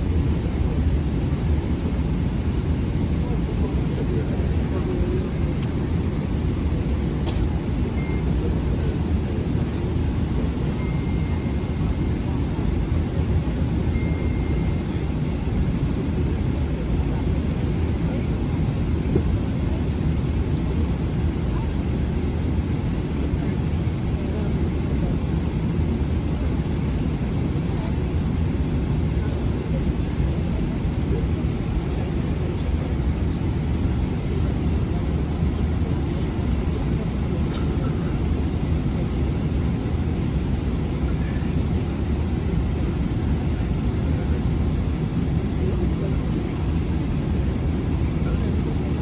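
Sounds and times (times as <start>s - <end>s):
aircraft cabin noise: 0.0s - 49.0s
airliner engine and airflow rumble: 0.0s - 49.0s.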